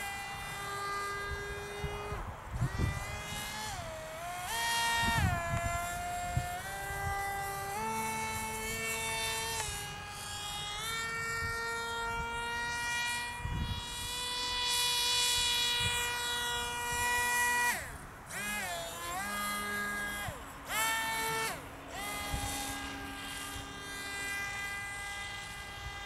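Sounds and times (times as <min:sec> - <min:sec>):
model jet electric motor whine: 0:00.0 - 0:26.0.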